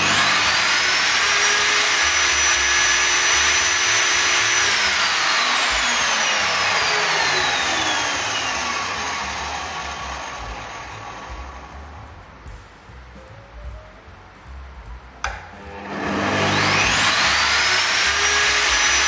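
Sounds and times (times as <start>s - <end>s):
saw motor winding down: 0.0s - 12.2s, 15.3s - 19.0s
table saw whining: 0.0s - 12.2s, 15.2s - 19.0s.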